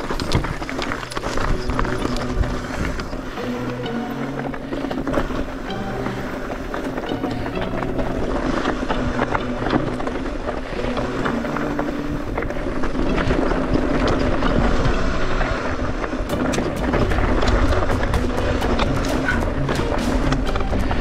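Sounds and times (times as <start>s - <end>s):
bike tyre and ride noise: 0.0s - 21.0s.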